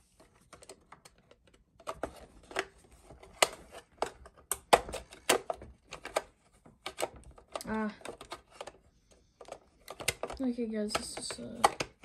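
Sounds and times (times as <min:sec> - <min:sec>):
hard plastic clicking: 0:00.5 - 0:08.8, 0:09.4 - 0:12.0.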